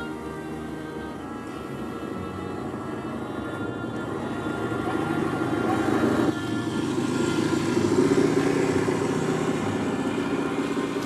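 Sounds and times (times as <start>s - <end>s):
electric motor and gears running: 0.0s - 11.0s.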